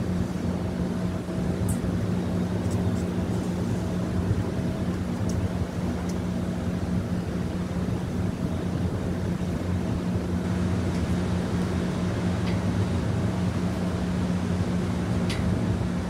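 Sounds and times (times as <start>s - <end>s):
train idling hum: 0.0s - 16.0s.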